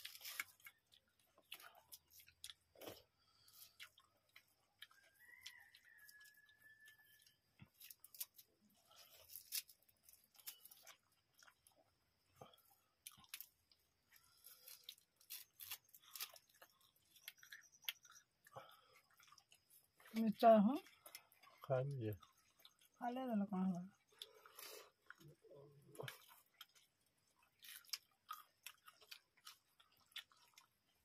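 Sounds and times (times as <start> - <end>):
mouths chewing and smacking: 0.0 - 31.0.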